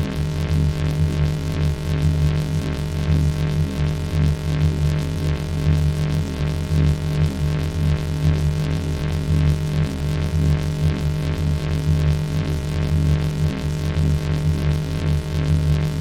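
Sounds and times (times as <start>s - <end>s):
pulsing electronic buzzing drone: 0.0s - 16.0s.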